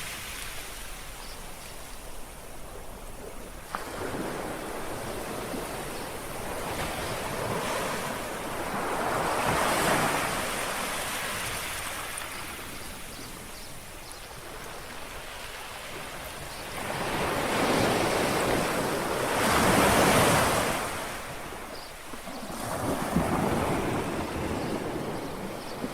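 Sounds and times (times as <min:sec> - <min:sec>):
sea waves lapping on shore: 0:00.0 - 0:25.9.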